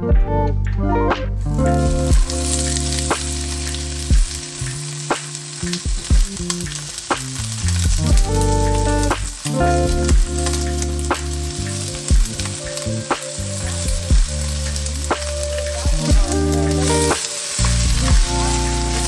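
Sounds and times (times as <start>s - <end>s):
background music with a beat: 0.0s - 19.0s
vegetables sizzling in a pan: 1.5s - 19.0s.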